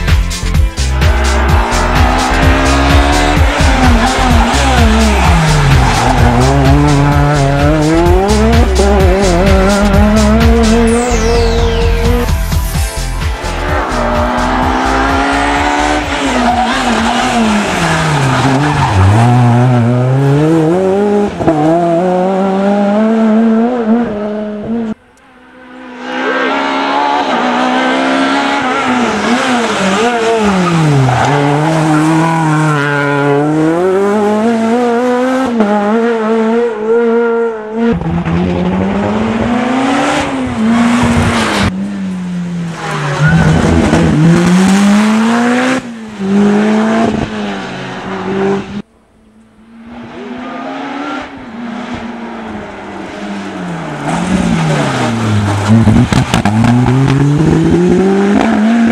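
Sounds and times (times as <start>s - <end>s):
rally car engines at full throttle: 0.0s - 58.9s.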